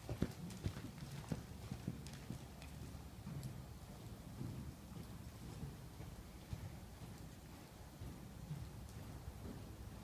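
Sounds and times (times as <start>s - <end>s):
horse hoofbeats on dirt: 0.0s - 10.0s.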